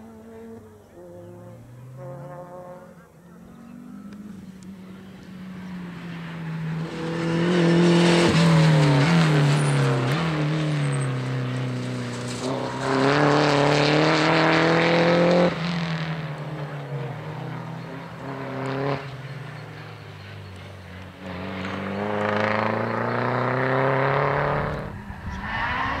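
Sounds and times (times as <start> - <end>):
car engine at full throttle: 0.0 - 26.0.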